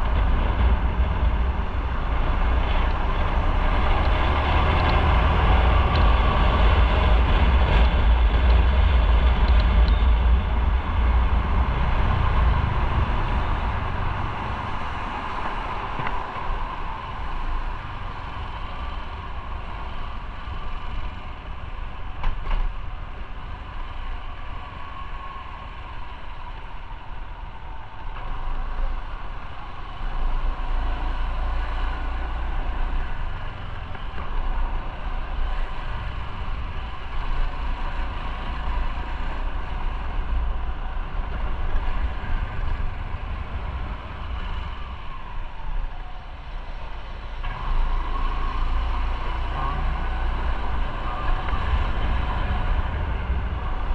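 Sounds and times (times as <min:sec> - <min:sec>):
motorcycle engine and road noise: 0:00.0 - 0:53.9.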